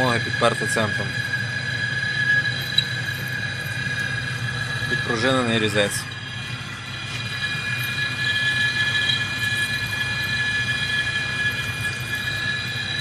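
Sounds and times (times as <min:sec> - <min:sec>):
lathe running hum: 0:00.0 - 0:13.0
parting tool squealing: 0:00.0 - 0:13.0.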